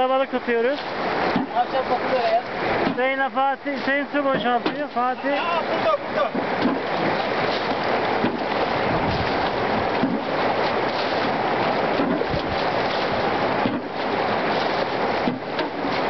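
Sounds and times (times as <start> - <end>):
water bailed with plastic tub: 0.0 - 16.0
water rushing in stream: 0.0 - 16.0.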